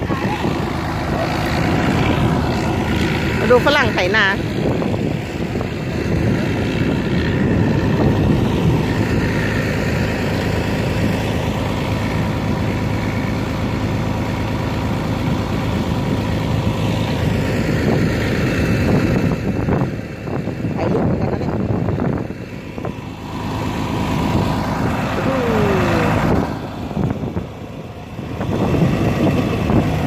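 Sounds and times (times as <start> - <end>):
tractor engines rumbling: 0.0 - 30.0.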